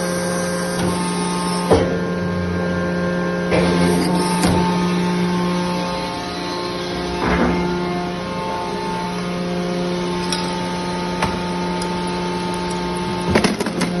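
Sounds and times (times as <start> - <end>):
metal baler motor humming: 0.0 - 14.0.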